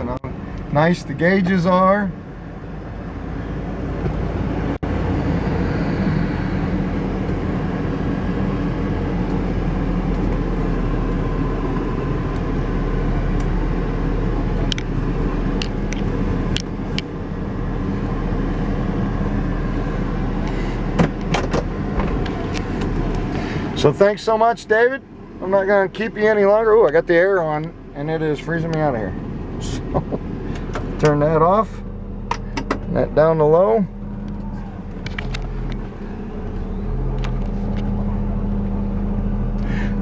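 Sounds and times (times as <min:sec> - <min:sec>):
car engine hum: 0:00.0 - 0:40.0.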